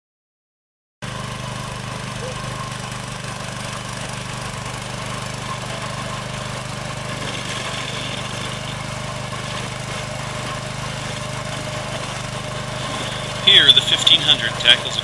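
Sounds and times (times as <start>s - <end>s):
trencher engine digging: 1.0s - 15.0s.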